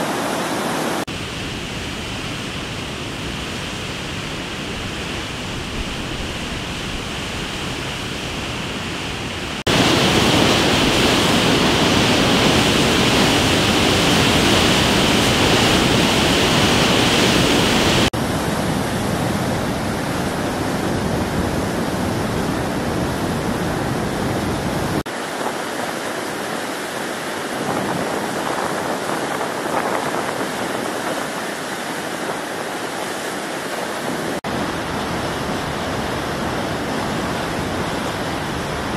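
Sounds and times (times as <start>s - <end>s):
water rushing and churning: 0.0s - 38.9s.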